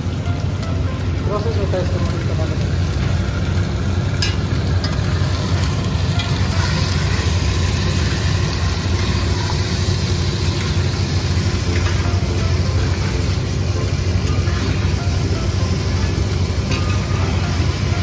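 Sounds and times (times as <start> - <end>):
kitchen equipment drone: 0.0 - 18.0
meat sizzling: 0.0 - 18.0.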